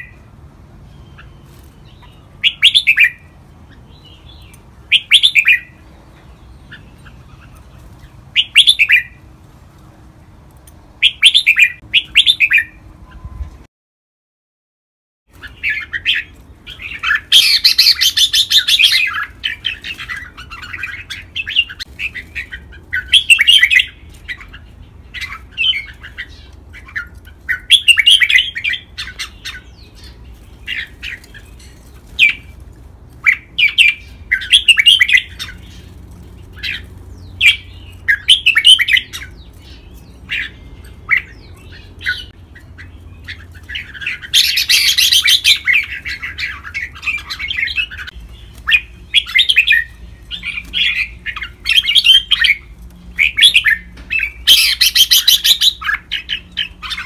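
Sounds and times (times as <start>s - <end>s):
bird chirping song: 0.0s - 9.4s, 10.2s - 13.7s, 15.3s - 57.0s.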